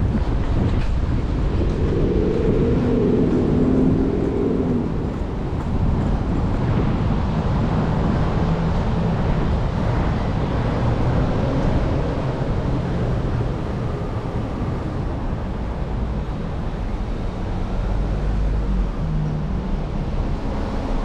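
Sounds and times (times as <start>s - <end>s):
low rumble of traffic: 0.0s - 21.0s
wind buffeting microphone: 0.0s - 21.0s.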